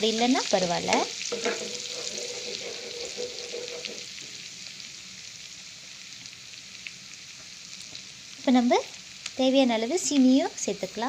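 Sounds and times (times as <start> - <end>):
garlic sizzling in butter: 0.0 - 11.0.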